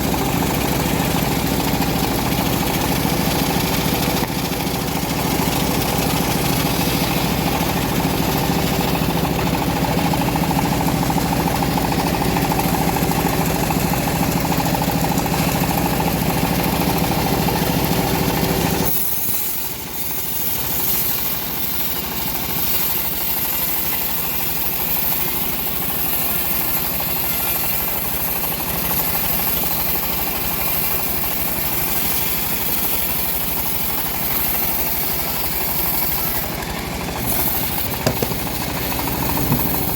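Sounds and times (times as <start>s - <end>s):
hissy running noise: 0.0s - 39.9s
sawmill engine running: 0.0s - 39.9s.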